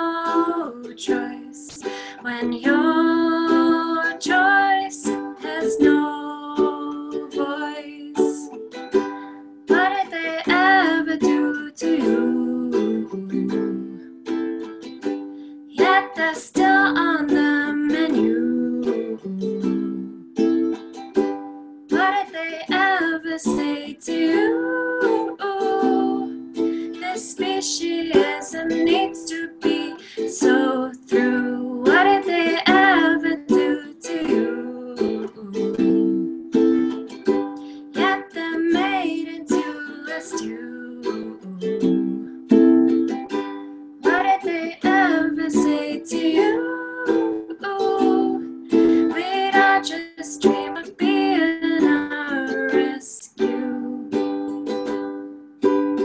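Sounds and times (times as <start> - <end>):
woman singing: 0.0 - 14.2, 15.7 - 20.4, 21.9 - 36.9, 37.5 - 42.9, 44.0 - 54.6
ukulele chords: 0.0 - 56.0.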